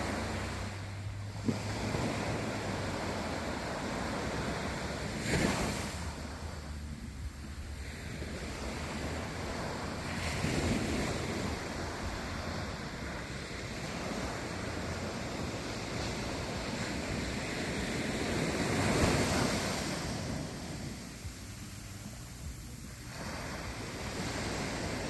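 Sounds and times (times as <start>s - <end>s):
waves washing in: 0.0s - 25.0s
wind rumbling on microphone: 0.0s - 25.0s.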